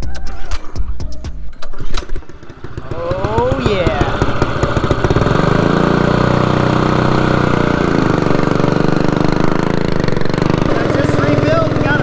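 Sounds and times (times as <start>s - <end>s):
small engine running: 2.1s - 12.0s.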